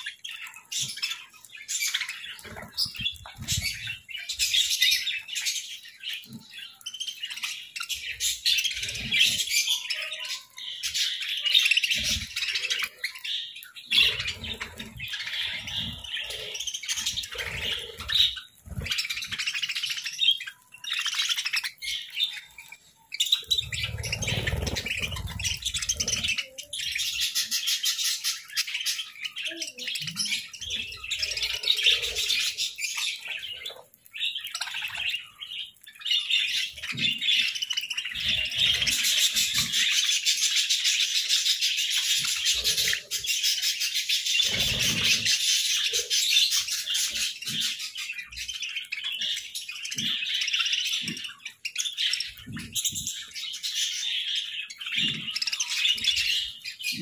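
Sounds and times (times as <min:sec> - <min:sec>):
budgerigars chirping: 0:00.0 - 0:57.0.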